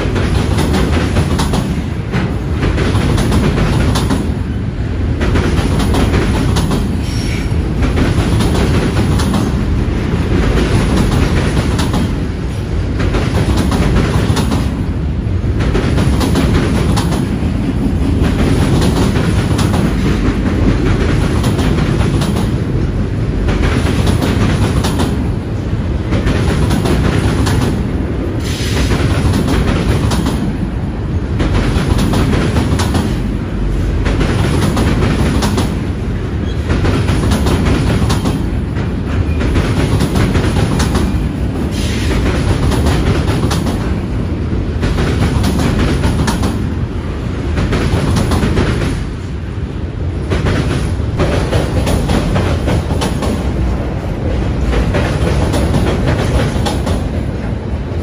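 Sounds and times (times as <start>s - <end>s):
train wheels rumbling on bridge: 0.0s - 58.0s.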